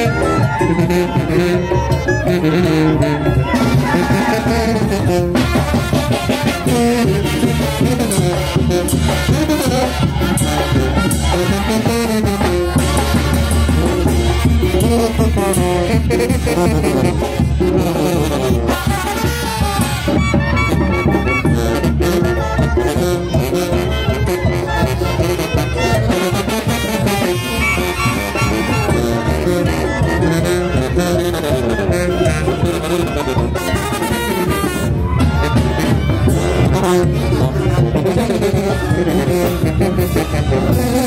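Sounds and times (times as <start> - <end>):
brass band playing: 0.0 - 41.0.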